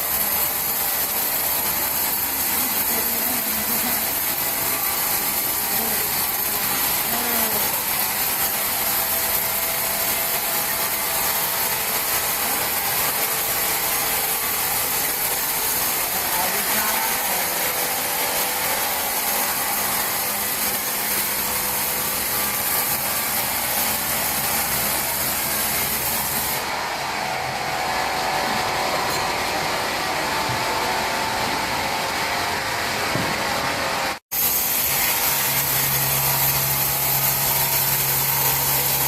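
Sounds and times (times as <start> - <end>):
saw rasping through timber: 0.0 - 31.9, 34.2 - 39.0.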